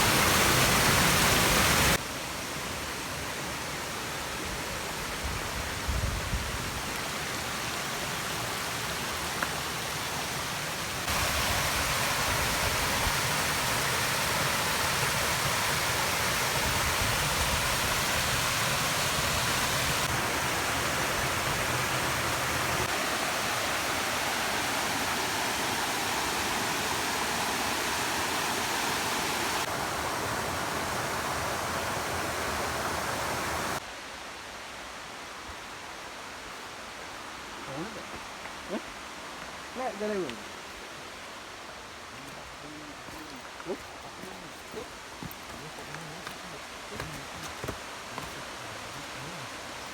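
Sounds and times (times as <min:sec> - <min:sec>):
rushing flowing water: 0:00.0 - 0:49.9.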